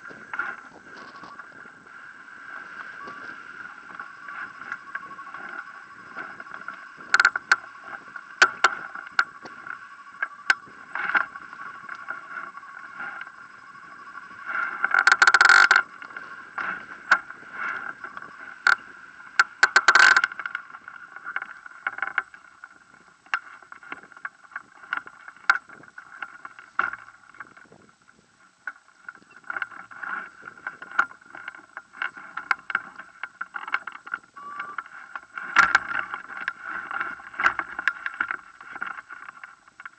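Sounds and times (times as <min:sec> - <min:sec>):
steady hum: 0:00.0 - 0:39.9
wind gusts: 0:00.0 - 0:39.9.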